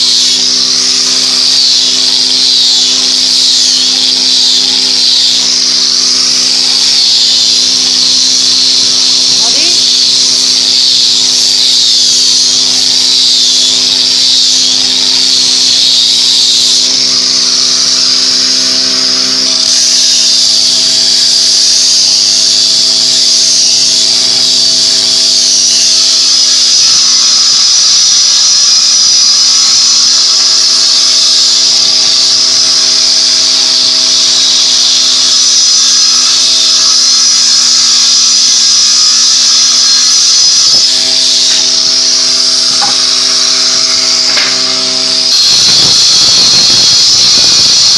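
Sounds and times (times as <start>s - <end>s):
woodworking power tool running: 0.0s - 47.9s.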